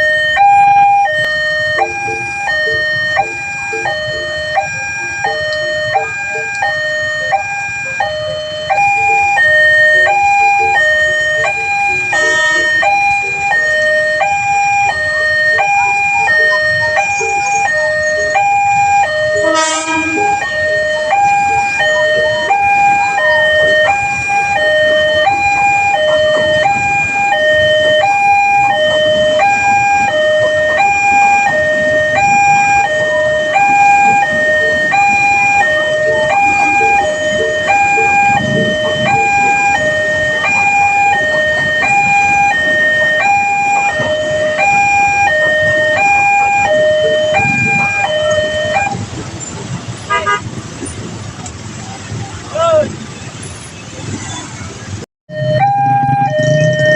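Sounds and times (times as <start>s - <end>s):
two-tone crossing alarm: 0.0s - 50.4s, 55.3s - 56.9s.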